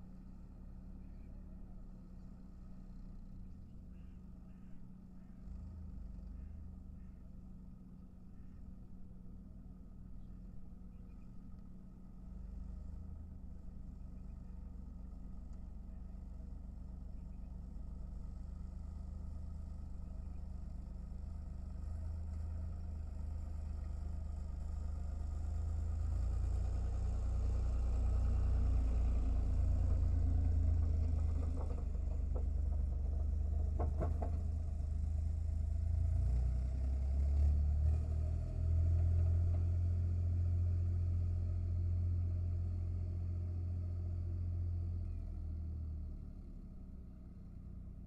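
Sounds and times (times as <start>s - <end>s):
engine rumbling: 0.0s - 48.0s.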